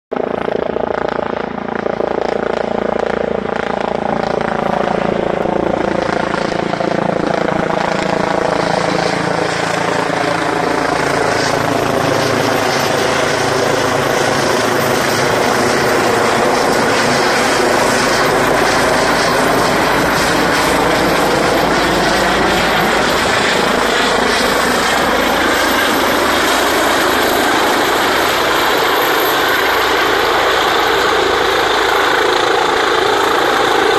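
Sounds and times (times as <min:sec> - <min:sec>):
helicopter flying overhead: 0:00.1 - 0:33.9.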